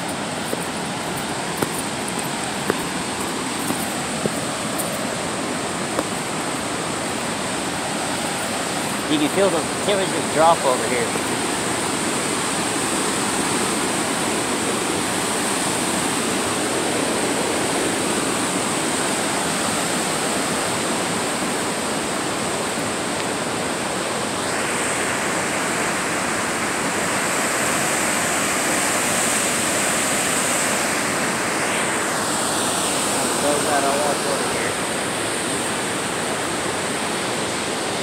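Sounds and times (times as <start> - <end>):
waterfall and rapids roaring: 0.0 - 38.0.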